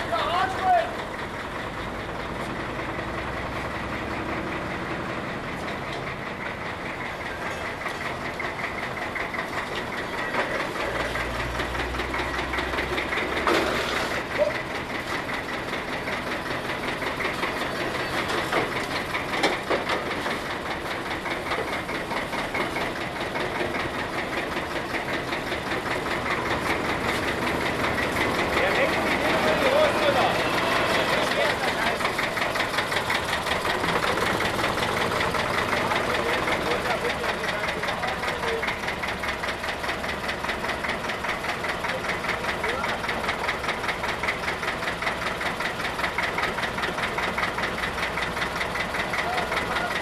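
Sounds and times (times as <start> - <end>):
engine idling with knocking: 0.0 - 50.0.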